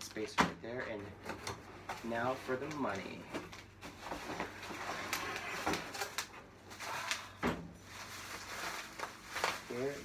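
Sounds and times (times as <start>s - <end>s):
cardboard and plastic rustling: 0.2s - 10.0s.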